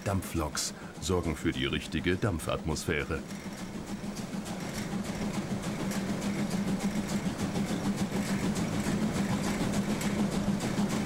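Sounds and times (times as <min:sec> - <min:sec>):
exhaust beats: 0:00.0 - 0:11.0
steam locomotive running: 0:00.0 - 0:11.0.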